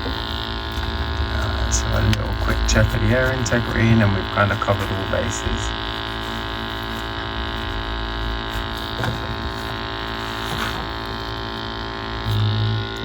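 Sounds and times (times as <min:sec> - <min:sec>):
gas boiler humming: 0:00.0 - 0:13.0.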